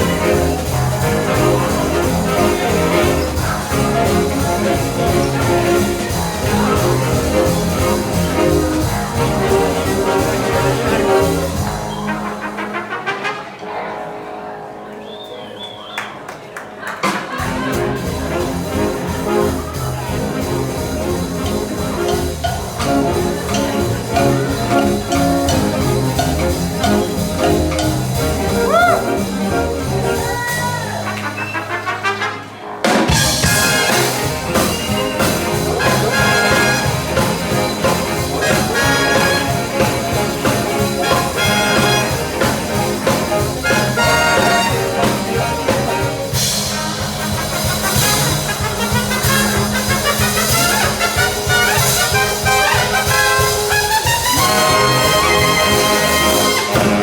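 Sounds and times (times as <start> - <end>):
swing big band playing: 0.0 - 14.0, 16.8 - 57.0
trumpets and trombones: 0.0 - 14.5, 17.4 - 57.0.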